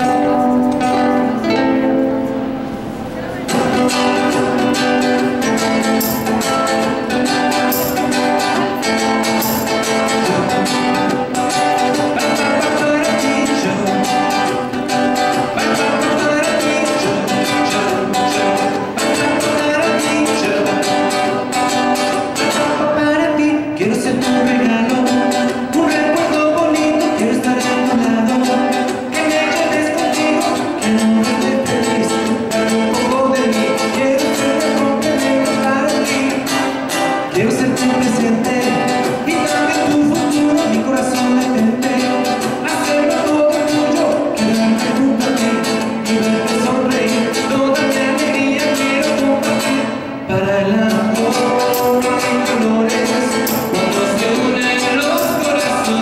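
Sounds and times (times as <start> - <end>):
man singing into a microphone: 0.0 - 1.5, 3.5 - 56.0
acoustic guitar playing: 0.0 - 56.0.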